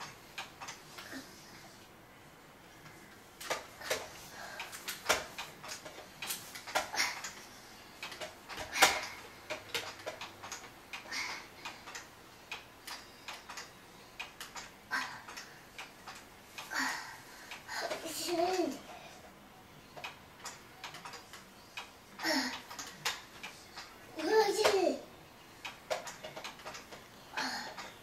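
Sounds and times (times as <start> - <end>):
plastic clicks and knocks of swing: 0.0 - 1.2, 2.8 - 16.7, 19.9 - 25.0, 25.6 - 28.0.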